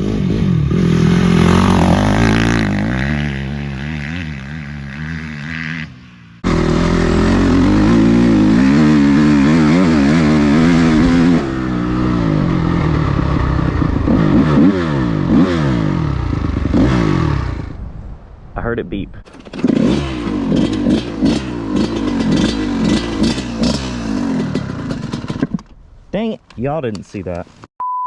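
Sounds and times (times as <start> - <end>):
dirt bike engine revving: 0.0 - 17.8, 19.3 - 25.5.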